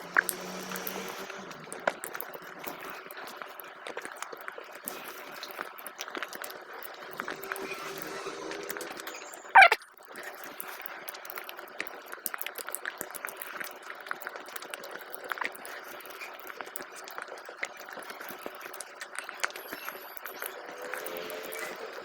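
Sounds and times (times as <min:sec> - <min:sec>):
wet squelches of rice being eaten: 0:00.0 - 0:22.0.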